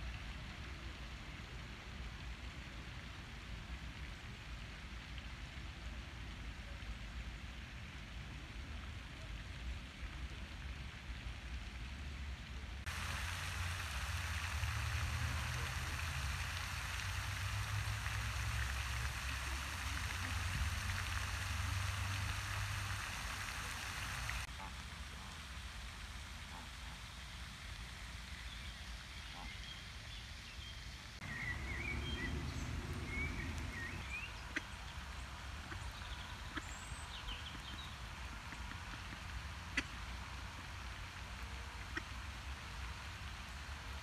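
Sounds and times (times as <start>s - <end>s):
outdoor background hiss: 0.0s - 44.0s.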